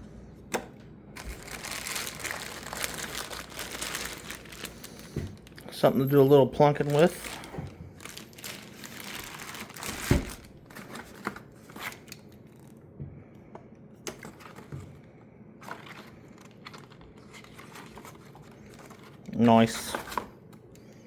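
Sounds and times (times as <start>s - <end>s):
packaging crinkling and rustling: 1.2s - 12.8s, 14.1s - 20.7s.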